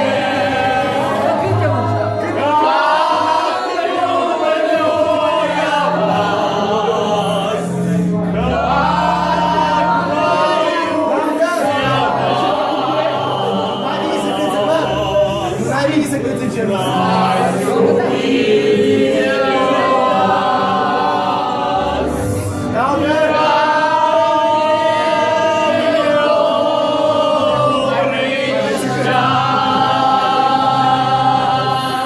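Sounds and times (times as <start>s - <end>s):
group singing together: 0.0s - 32.0s.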